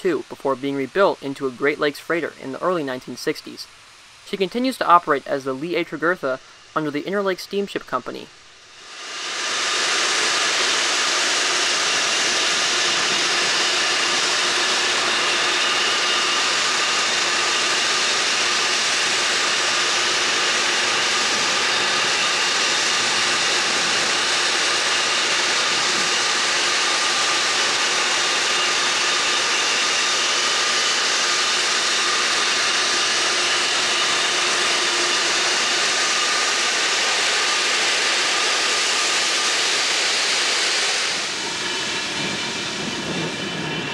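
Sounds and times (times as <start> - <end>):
machinery hiss: 0.1 - 43.9.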